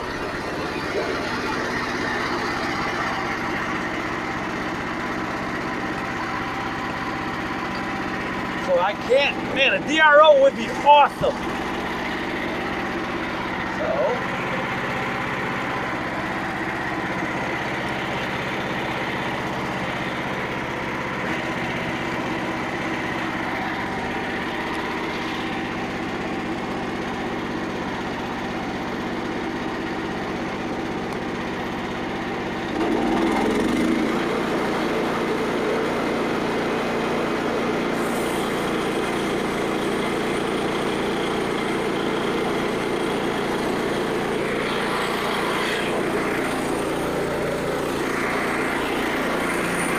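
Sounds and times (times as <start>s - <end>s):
small gasoline engine at high throttle: 0.0s - 49.9s.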